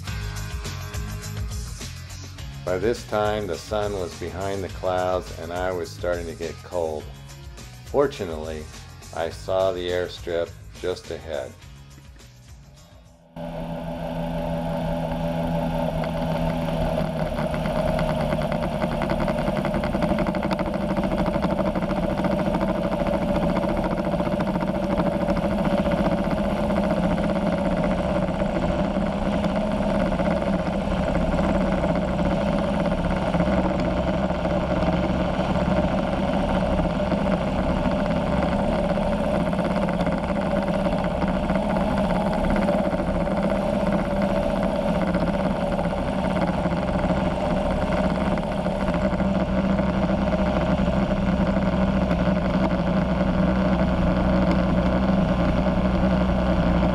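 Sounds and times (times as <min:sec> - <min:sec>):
ultralight engine running: 0:00.0 - 0:56.9.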